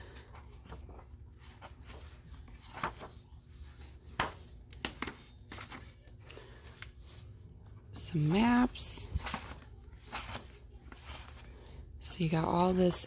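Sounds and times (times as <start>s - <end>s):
book pages turning: 0.1s - 11.7s.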